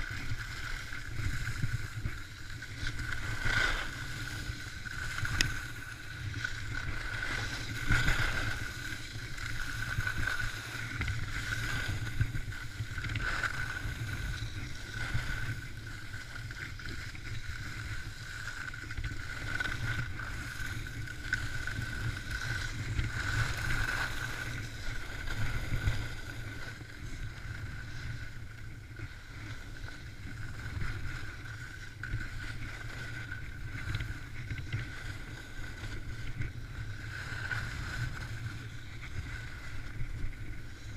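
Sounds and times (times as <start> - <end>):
skis scraping over hard snow: 0.0 - 40.9
wind rush on microphone: 0.0 - 40.9.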